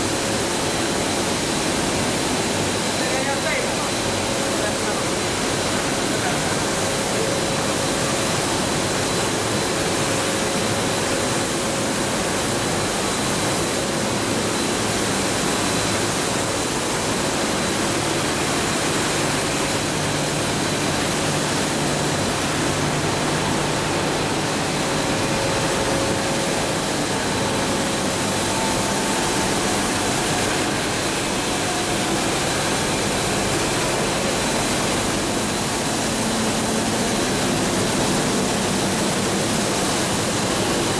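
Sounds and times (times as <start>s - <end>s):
industrial machinery roar: 0.0s - 40.9s.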